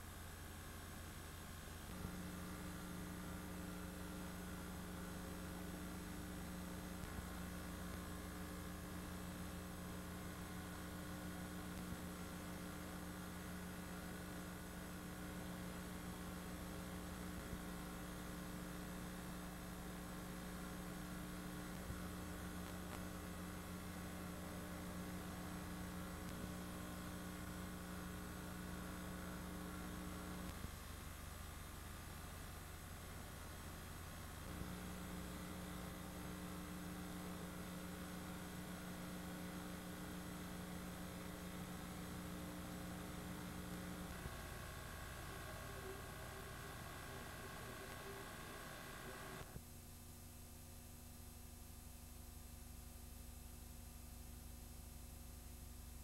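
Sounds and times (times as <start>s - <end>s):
constant hiss: 0.0s - 49.6s
electrical hum: 0.0s - 49.8s.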